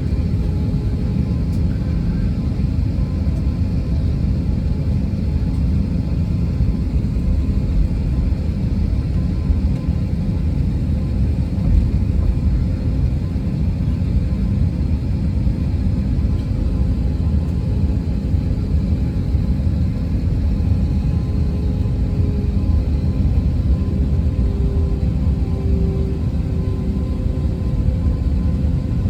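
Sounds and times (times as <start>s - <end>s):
jet airliner rumble: 0.0s - 29.0s.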